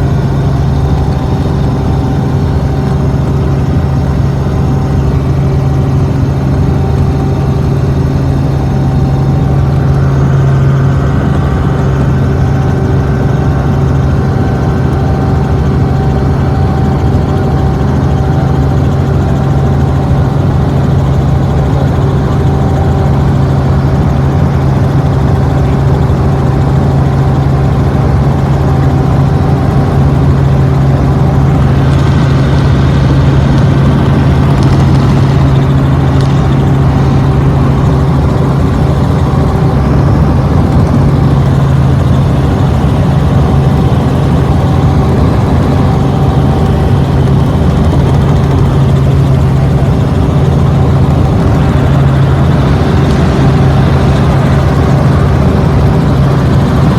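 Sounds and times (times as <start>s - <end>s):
aircraft engine droning: 0.0s - 56.9s.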